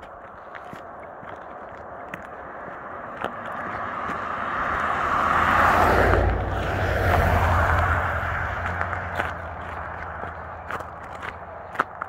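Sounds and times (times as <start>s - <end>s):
vehicles passing on road: 0.0s - 12.0s.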